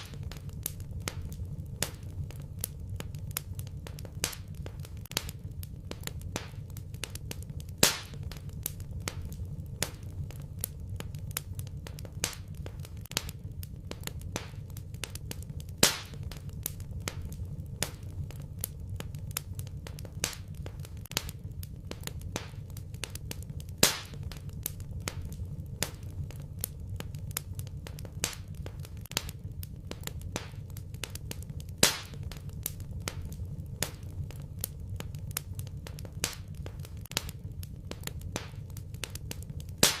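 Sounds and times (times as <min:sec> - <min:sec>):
low rumble: 0:00.0 - 0:39.8
loud fire pops: 0:00.0 - 0:40.0
wood fire crackling: 0:00.0 - 0:40.0.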